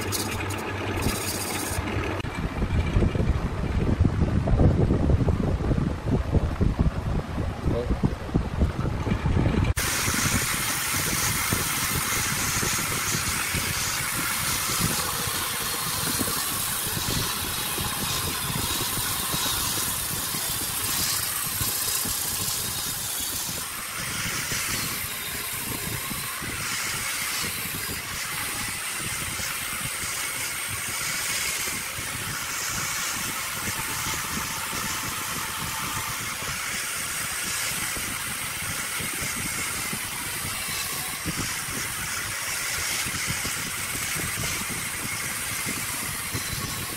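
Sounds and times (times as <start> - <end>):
power tool running with whine: 0.0 - 3.2, 9.7 - 46.9.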